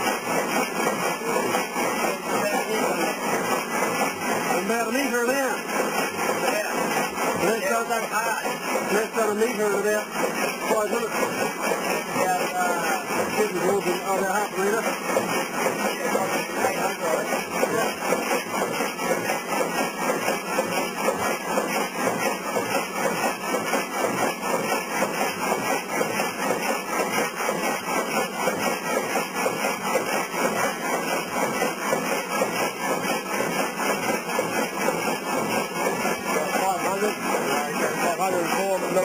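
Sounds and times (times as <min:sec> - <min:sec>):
frame saw rhythmic clatter: 0:00.0 - 0:39.0.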